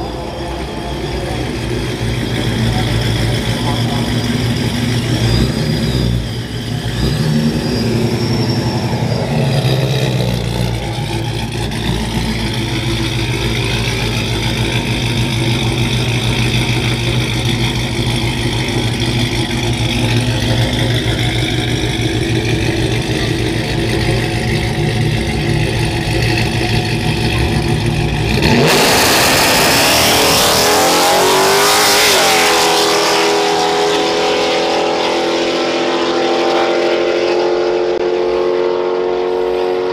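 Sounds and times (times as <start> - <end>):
engine at full throttle: 0.0 - 39.9
pickup engine revving: 0.0 - 39.9.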